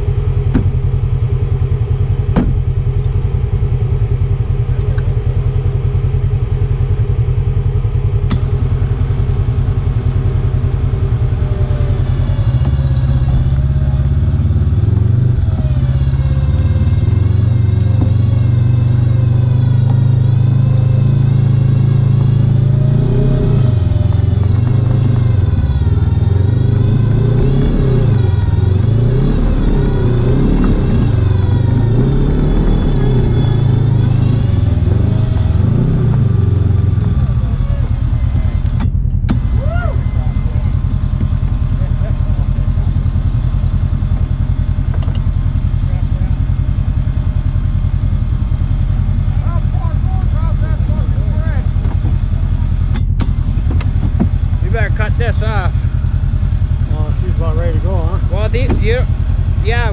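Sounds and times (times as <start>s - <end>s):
utility vehicle engine revving: 0.0s - 59.9s.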